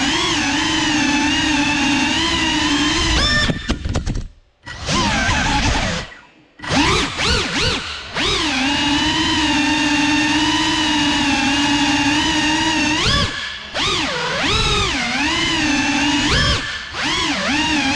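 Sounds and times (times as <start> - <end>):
drone motors whining: 0.0 - 17.9.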